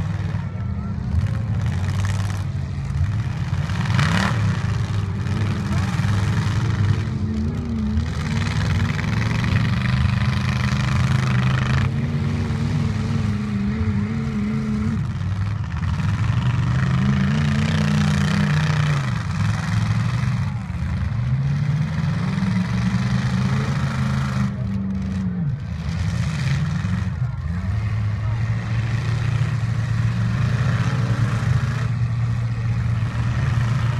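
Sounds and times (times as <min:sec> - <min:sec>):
truck engines revving: 0:00.0 - 0:33.9.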